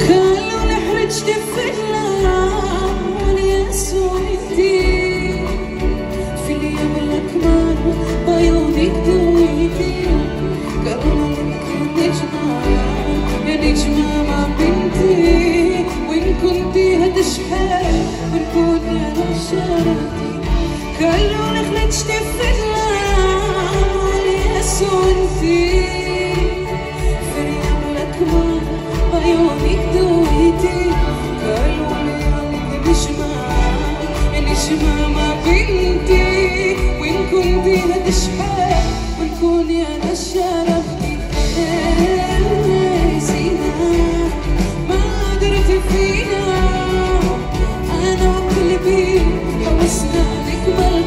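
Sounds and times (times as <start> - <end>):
live band with strings playing pop: 0.0 - 51.0
steady drum beat: 0.0 - 51.0.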